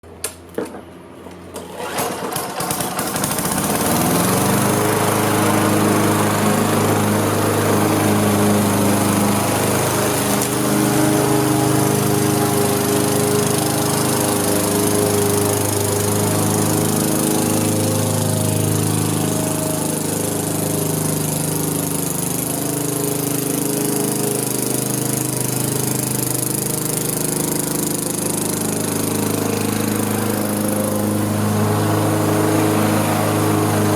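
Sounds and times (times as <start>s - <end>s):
lawn mower engine running: 0.0s - 33.9s.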